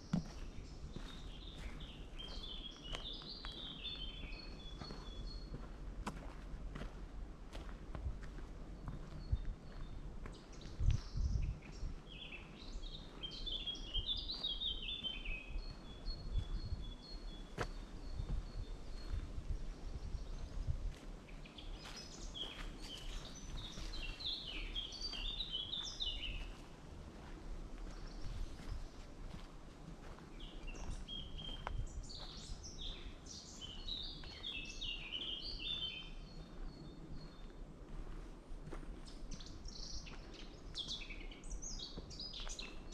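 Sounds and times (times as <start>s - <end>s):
footsteps on forest path: 0.0s - 42.9s
low background noise: 0.0s - 42.9s
songbird singing: 0.0s - 42.9s.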